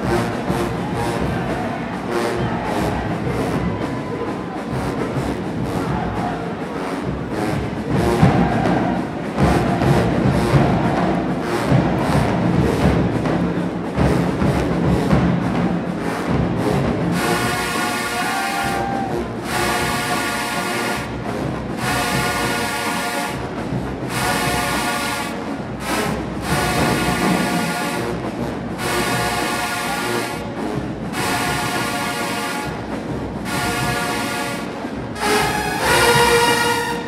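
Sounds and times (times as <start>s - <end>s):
brass section chords: 0.0s - 37.0s
marching band drums: 0.0s - 37.0s.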